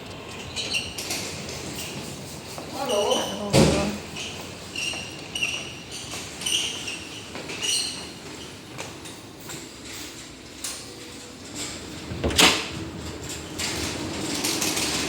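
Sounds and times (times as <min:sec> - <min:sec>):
sliding door opening: 0:00.0 - 0:15.0.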